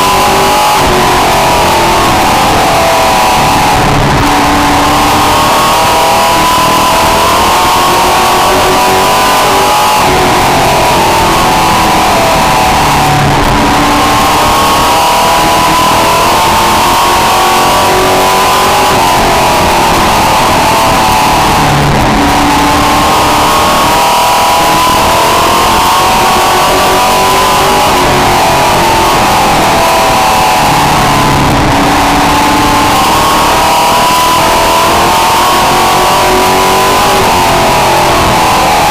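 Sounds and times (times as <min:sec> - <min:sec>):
race truck engine revving: 0:00.0 - 0:38.9.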